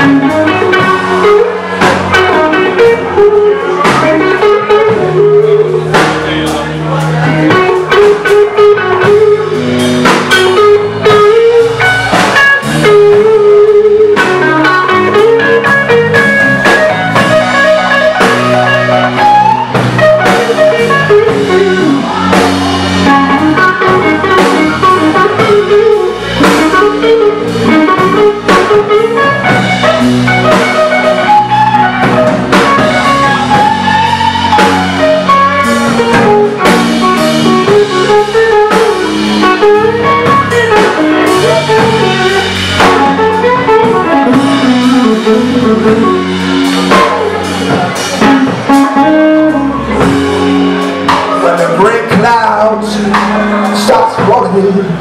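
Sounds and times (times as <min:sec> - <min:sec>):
drum kit: 0:00.0 - 0:55.0
electric bass: 0:00.0 - 0:55.0
electric guitar lead: 0:00.0 - 0:55.0.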